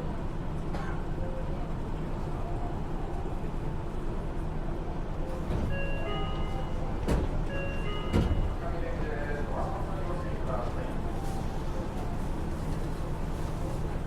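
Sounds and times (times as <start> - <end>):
monorail car rumble: 0.0 - 14.0.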